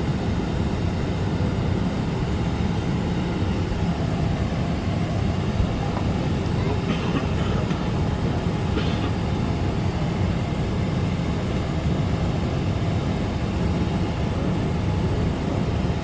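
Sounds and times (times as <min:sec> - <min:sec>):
airliner cabin rumble: 0:01.3 - 0:16.0.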